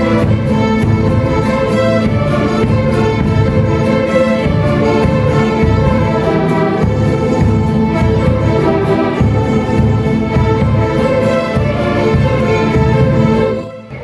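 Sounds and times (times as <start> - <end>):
orchestral music with bowed strings: 0.0 - 14.0
steady beat: 0.0 - 14.0.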